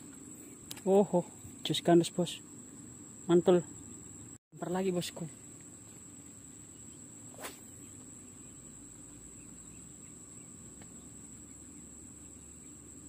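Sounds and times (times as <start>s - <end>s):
high-pitched insect trill: 0.0s - 13.0s
low outdoor hum: 0.0s - 13.0s.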